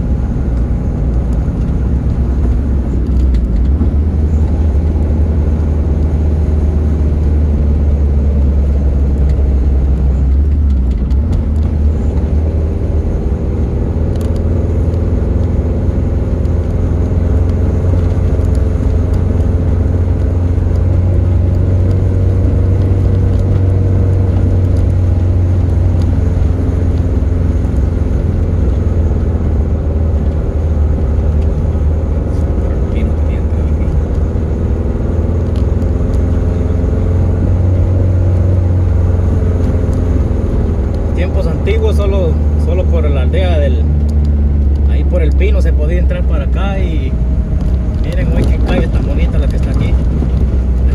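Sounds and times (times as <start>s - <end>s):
car engine and tyre rumble: 0.0s - 50.9s.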